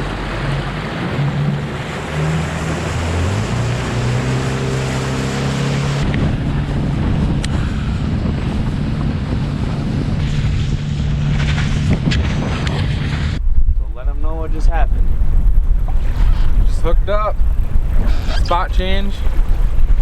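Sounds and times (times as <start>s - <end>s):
outboard motor running: 0.0s - 13.4s, 15.0s - 20.0s
wind buffeting microphone: 0.0s - 20.0s.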